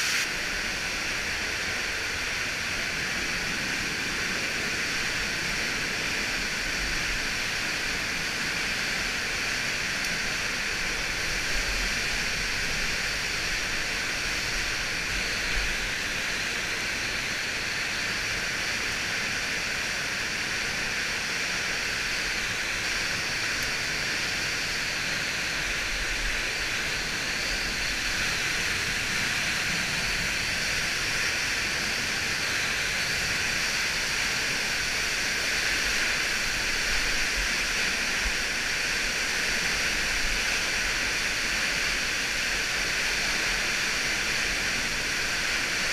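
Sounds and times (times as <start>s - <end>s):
running water rushing hiss: 0.0s - 45.9s.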